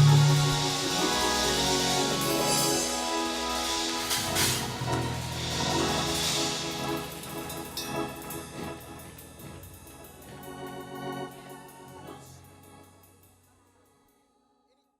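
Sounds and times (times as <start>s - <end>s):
organ playing sustained chords: 0.0s - 13.2s.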